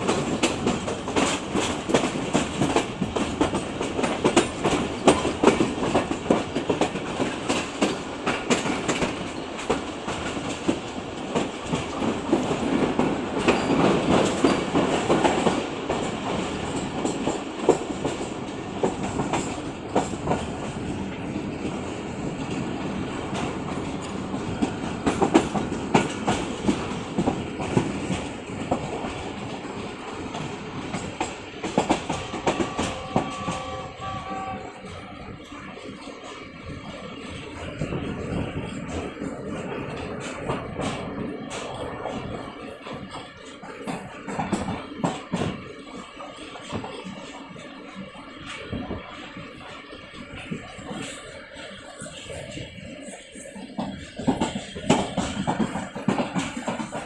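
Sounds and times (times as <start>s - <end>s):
train rumble: 0.0s - 57.0s
train wheels clattering over rail joints: 0.0s - 57.0s.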